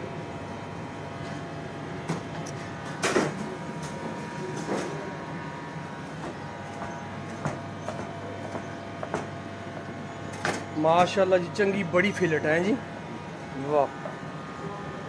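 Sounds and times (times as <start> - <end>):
kitchen equipment hum: 0.0 - 15.0.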